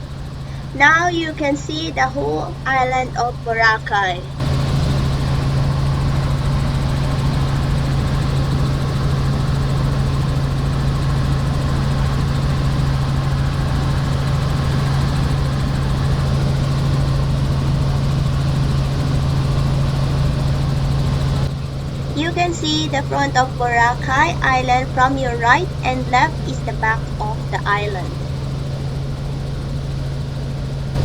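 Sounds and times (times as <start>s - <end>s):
helicopter rotor and engine drone: 0.0s - 31.0s.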